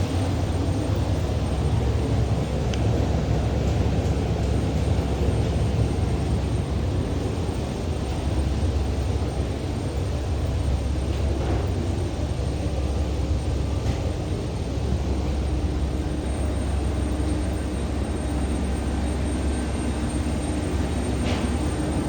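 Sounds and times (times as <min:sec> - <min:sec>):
airliner engine rumble: 0:00.0 - 0:22.0.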